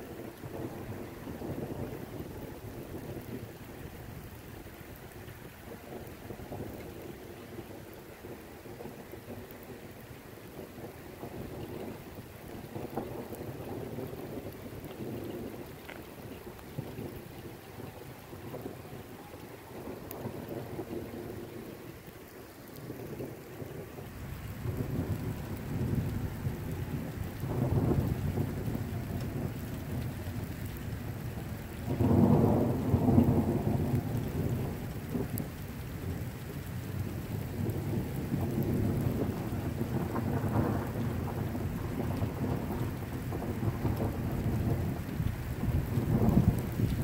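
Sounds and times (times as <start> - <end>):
rain falling: 0.0 - 47.0
thunder rumbling: 0.1 - 47.0.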